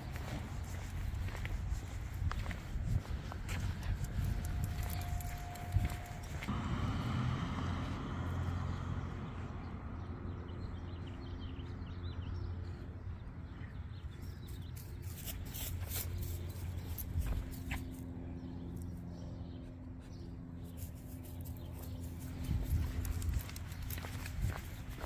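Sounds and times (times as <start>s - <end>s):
low traffic rumble: 0.0s - 25.0s
vehicle passing: 0.0s - 25.0s.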